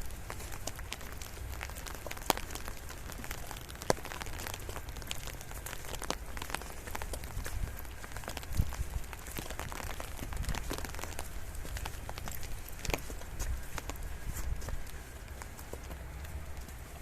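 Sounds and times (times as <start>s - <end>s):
rain falling: 0.0s - 17.0s
sharp ticks of raindrops: 0.0s - 17.0s
steady low rumble: 0.0s - 17.0s.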